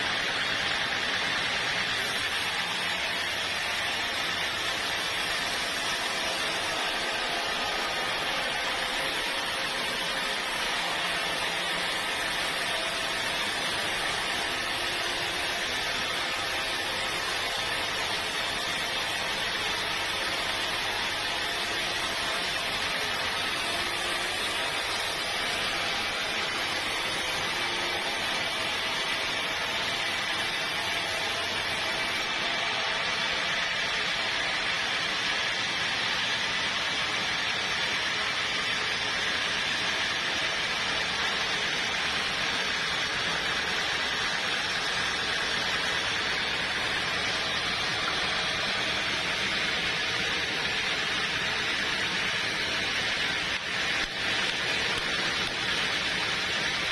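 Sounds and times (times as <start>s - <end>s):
sawmill machinery whirring: 0.0s - 56.9s.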